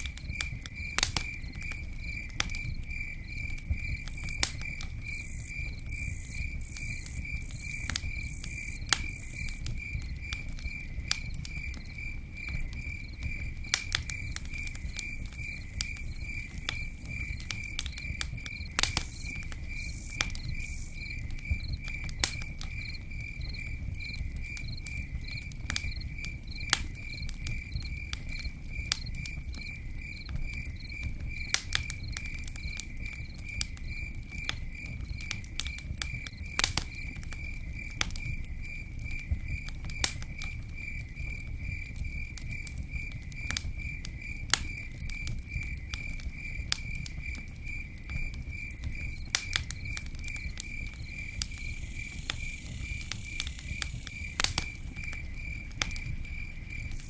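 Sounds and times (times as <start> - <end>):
campfire crackling and popping: 0.0 - 57.0
cricket chirping: 0.0 - 57.0.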